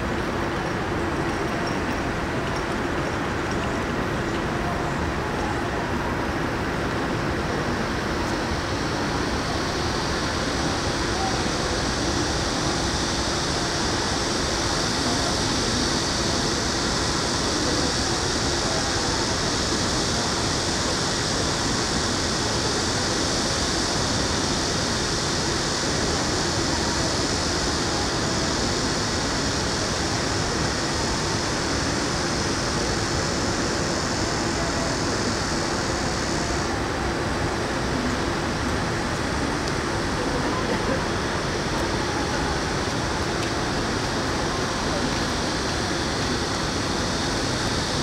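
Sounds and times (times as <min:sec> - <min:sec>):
city traffic and urban noise: 0:00.0 - 0:48.0.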